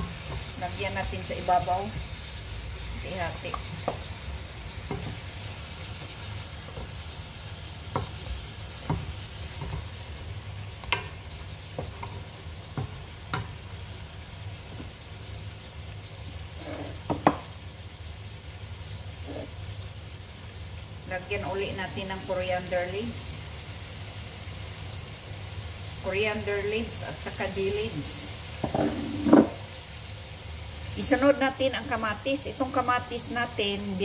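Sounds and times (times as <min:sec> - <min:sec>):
fish sizzling in a pot: 0:00.0 - 0:34.0.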